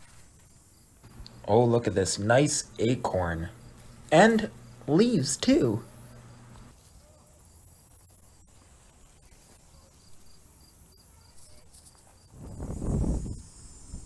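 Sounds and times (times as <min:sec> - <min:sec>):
faint cricket chirping: 0:00.0 - 0:14.0.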